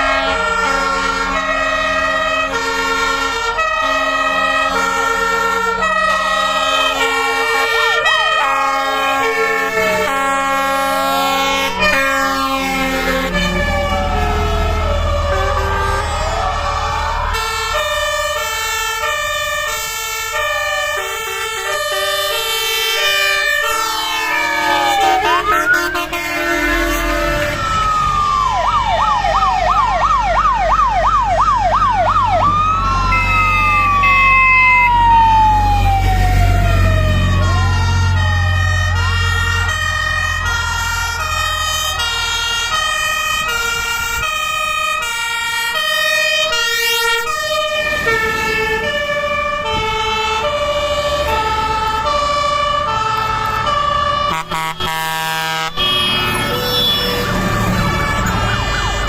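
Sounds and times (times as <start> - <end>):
fire engine sirens: 0.0 - 59.0
rumble of passing trucks: 0.0 - 59.0.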